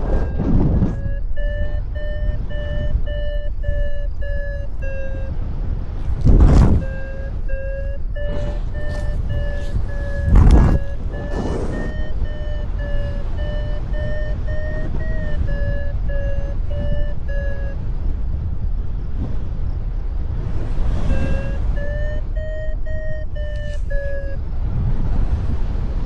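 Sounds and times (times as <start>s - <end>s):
variometer beeping: 0.0s - 18.0s, 20.9s - 24.4s
wind buffeting microphone: 0.0s - 26.0s.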